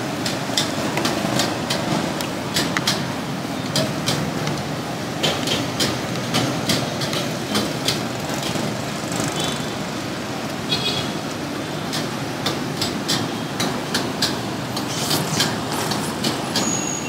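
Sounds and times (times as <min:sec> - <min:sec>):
passing traffic din: 0:00.0 - 0:17.0.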